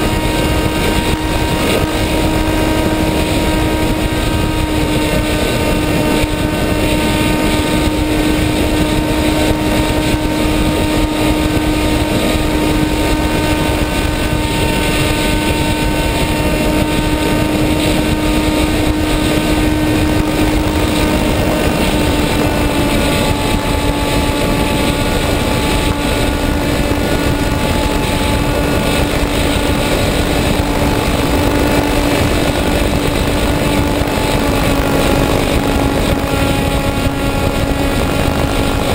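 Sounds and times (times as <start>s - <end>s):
model aircraft motor whine: 0.0s - 38.9s
rushing air noise: 0.0s - 38.9s.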